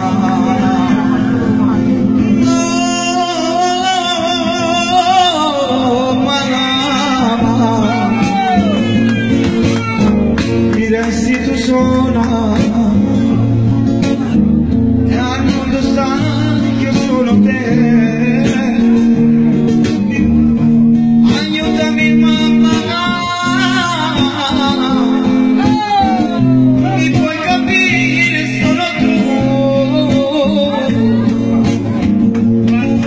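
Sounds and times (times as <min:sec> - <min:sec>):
man singing into microphone: 0:00.0 - 0:09.0, 0:09.8 - 0:13.6, 0:15.0 - 0:20.4, 0:21.2 - 0:32.0
guitar: 0:00.0 - 0:33.0
low bass line: 0:05.6 - 0:33.0.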